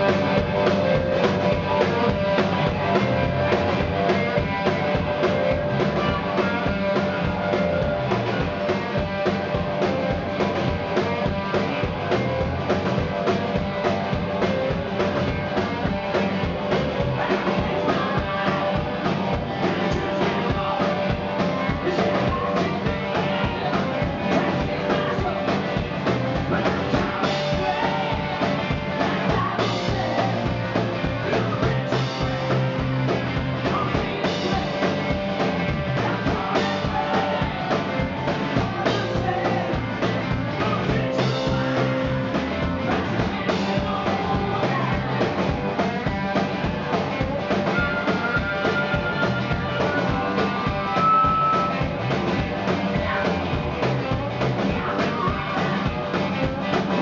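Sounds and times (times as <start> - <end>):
man singing: 0.0 - 9.0, 15.3 - 57.0
drum kit: 0.0 - 57.0
electric guitar: 0.0 - 57.0.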